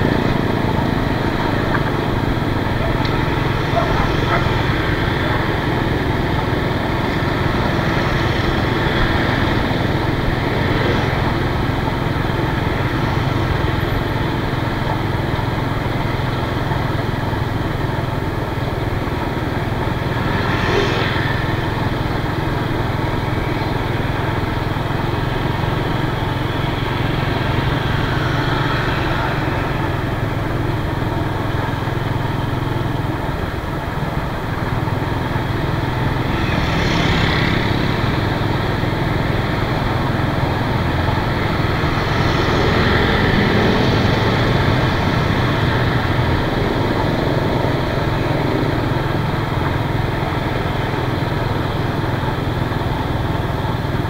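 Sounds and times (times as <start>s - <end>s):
motorbike engine running: 0.0s - 54.0s
passing vehicles: 0.0s - 54.0s
road noise: 0.0s - 54.0s.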